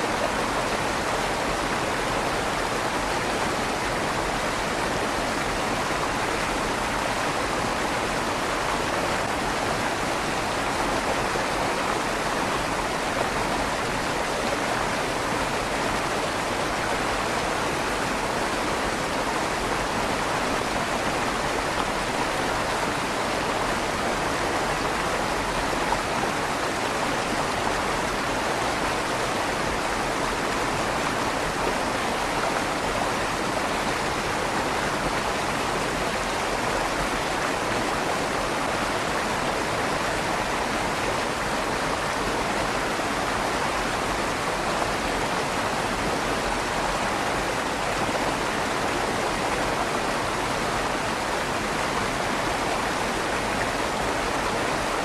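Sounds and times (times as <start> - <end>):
river water rushing with echo: 0.0 - 55.0.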